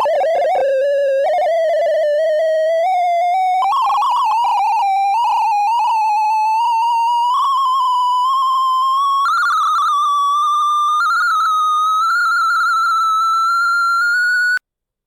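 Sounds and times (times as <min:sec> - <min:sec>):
electronic beeps rising in pitch: 0:00.0 - 0:13.6.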